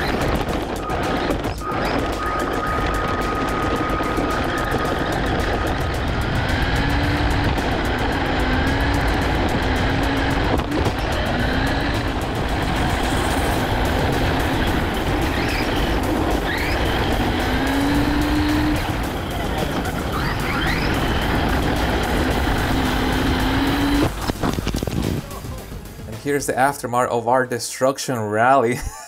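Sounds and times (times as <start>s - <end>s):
electric motor whine: 0.0s - 24.8s
tyres rumbling on ground: 0.0s - 26.6s.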